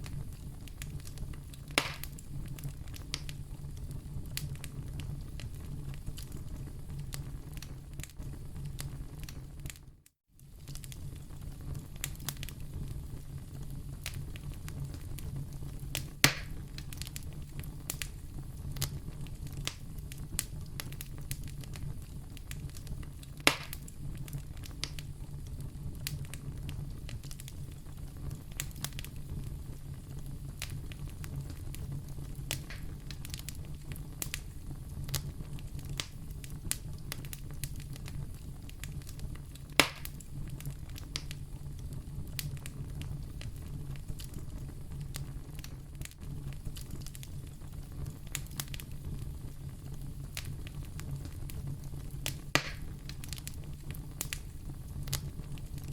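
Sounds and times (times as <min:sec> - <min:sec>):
fireplace fire crackling: 0:00.0 - 0:55.9
low rumble of flames: 0:00.0 - 0:55.9.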